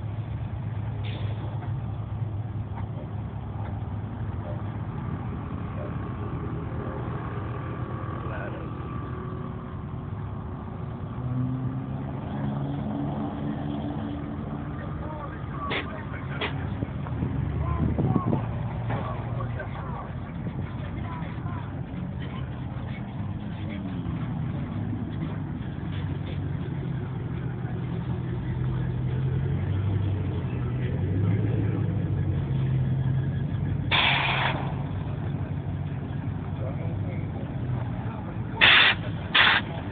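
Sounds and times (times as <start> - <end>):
car engine revving: 4.0 - 39.9.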